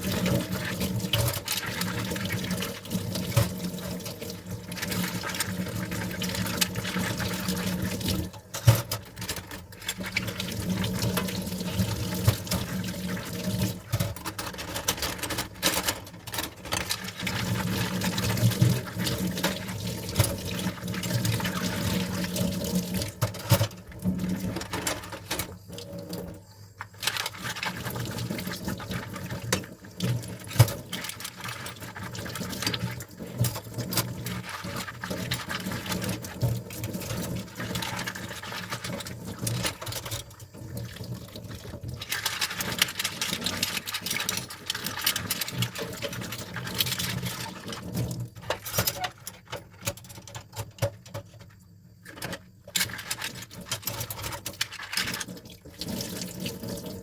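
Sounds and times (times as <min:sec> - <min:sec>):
water running and splashing: 0:00.0 - 0:48.4, 0:52.8 - 0:57.0.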